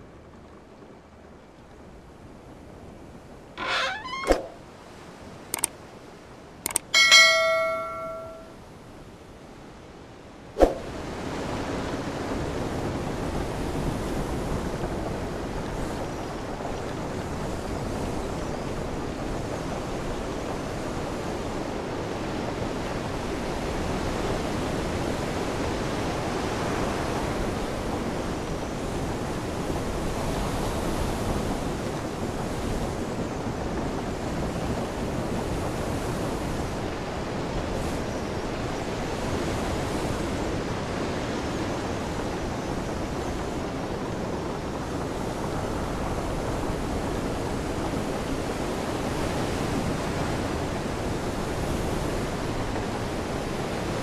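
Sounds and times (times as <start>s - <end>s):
wind: 0.0s - 54.0s.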